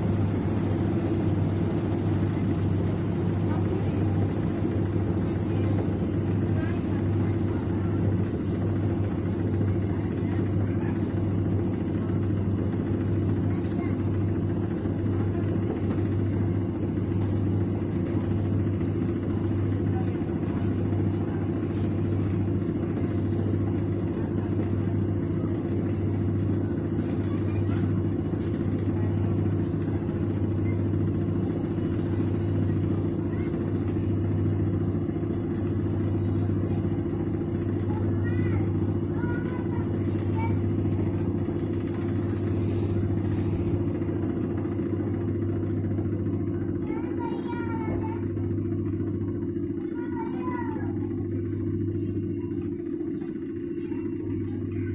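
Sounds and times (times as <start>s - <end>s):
washing machine motor hum: 0.0s - 54.9s.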